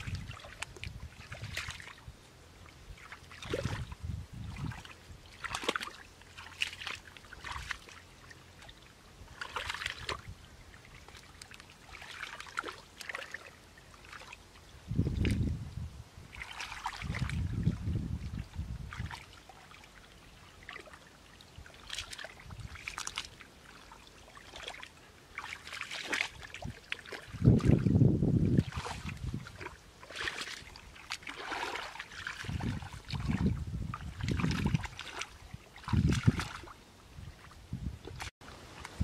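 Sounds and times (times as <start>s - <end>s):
sloshing in muddy water: 0.0s - 15.6s, 16.2s - 39.0s.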